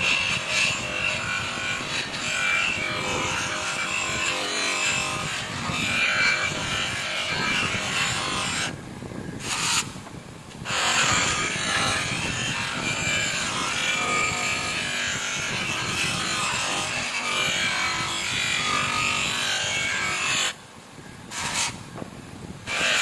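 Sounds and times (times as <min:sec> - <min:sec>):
abrasive rubbing on metal: 0:00.0 - 0:08.8, 0:10.6 - 0:20.6, 0:21.3 - 0:21.9, 0:22.7 - 0:23.0.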